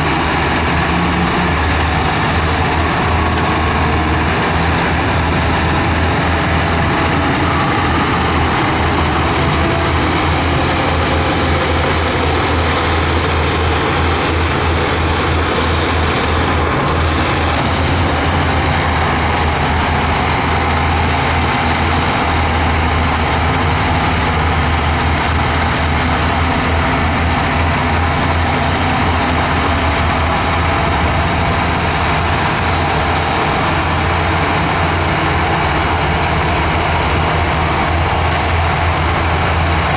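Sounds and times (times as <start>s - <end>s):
heavy diesel machine engine droning: 0.0s - 39.9s.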